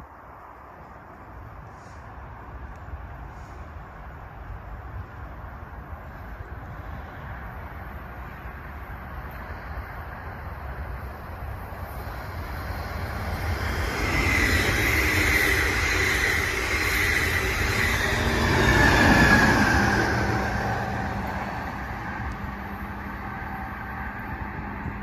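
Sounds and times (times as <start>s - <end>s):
train wheels rushing on rail: 1.0s - 25.0s.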